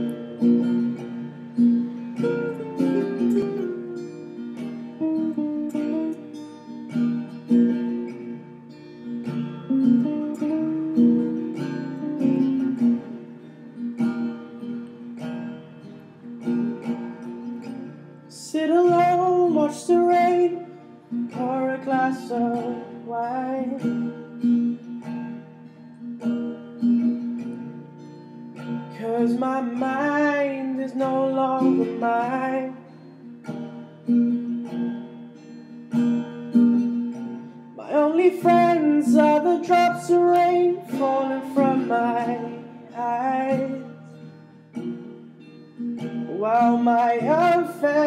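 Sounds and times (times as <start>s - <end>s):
acoustic guitar chords: 0.0s - 48.0s.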